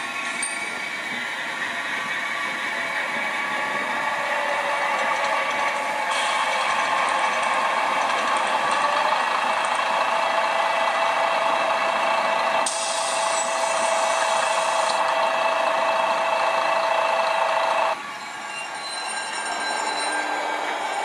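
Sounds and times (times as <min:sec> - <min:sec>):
recorded train rumble through speaker: 0:00.0 - 0:21.0
whining tones: 0:00.0 - 0:21.0.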